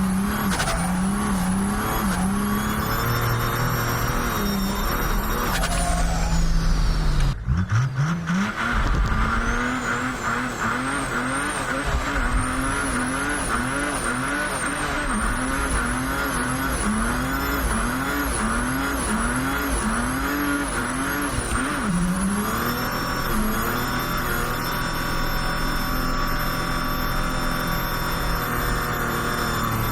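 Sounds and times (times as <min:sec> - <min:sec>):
high turbo whistle: 0:00.0 - 0:07.2, 0:09.2 - 0:29.9
diesel engine revving hard: 0:00.0 - 0:29.9.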